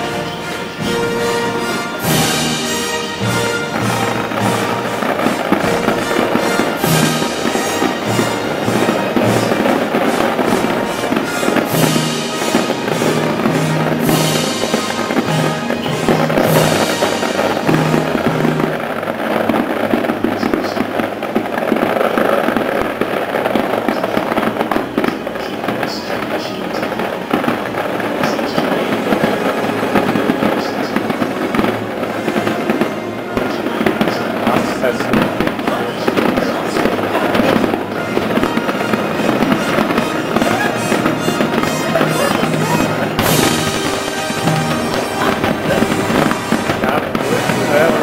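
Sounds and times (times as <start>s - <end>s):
fireworks crackling: 0.0s - 48.0s
fireworks popping and banging: 0.0s - 48.0s
music playing: 0.0s - 48.0s.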